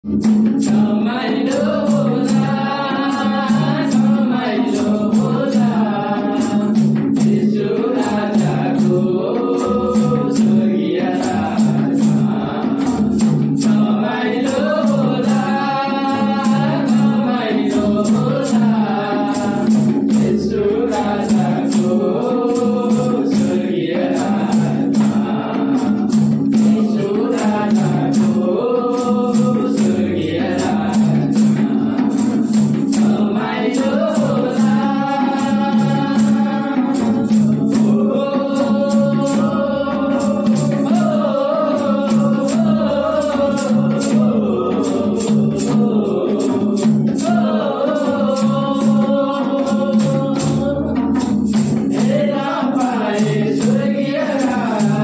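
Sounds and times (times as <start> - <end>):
hand drums: 0.0 - 55.0
men singing a hymn: 0.0 - 55.0.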